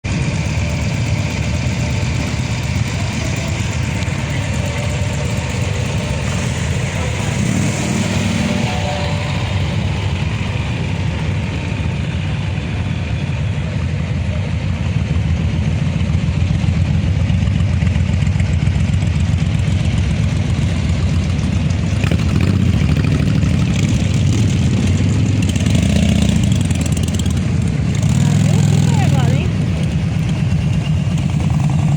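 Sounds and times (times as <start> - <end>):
motorcycle engines rumbling: 0.0 - 31.9.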